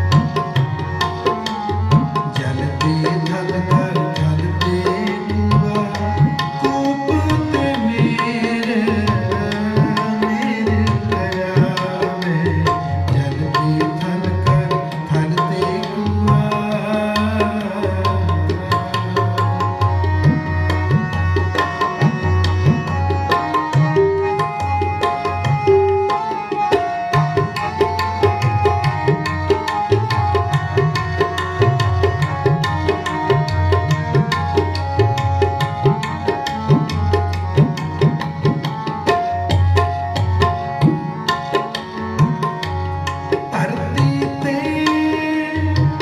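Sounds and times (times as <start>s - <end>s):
tabla playing: 0.0s - 46.0s.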